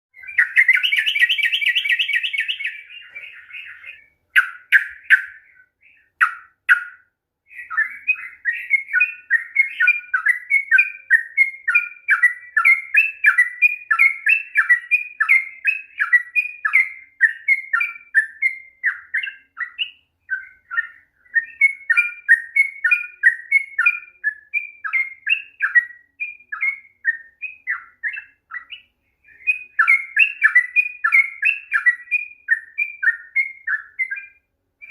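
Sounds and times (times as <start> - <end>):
bird singing rapid song: 0.1 - 34.9.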